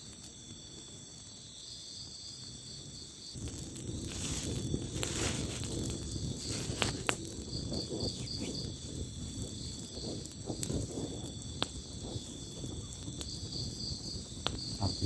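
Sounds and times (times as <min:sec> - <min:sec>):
campfire crackling and popping: 0:00.0 - 0:15.0
insects chirping: 0:00.0 - 0:15.0.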